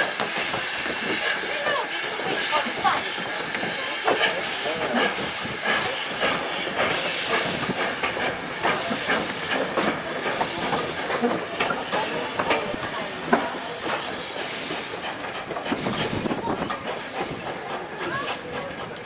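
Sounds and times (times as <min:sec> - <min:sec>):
hiss of steam: 0:00.0 - 0:19.0
steam locomotive moving: 0:00.0 - 0:19.0.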